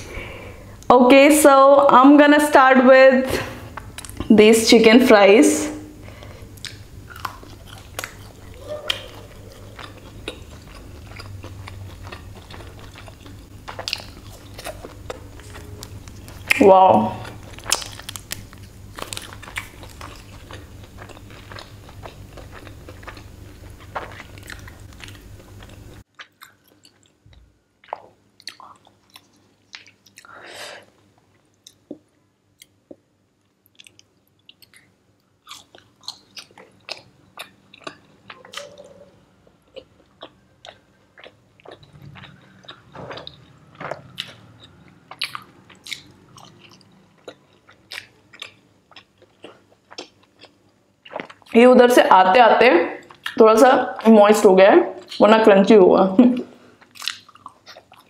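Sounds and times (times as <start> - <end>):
background hum: 0.0 - 58.0
wet chewing and mouth clicks: 3.8 - 4.3, 6.1 - 30.4, 31.3 - 32.0, 32.6 - 51.6, 53.0 - 54.1, 55.0 - 55.3, 56.8 - 58.0.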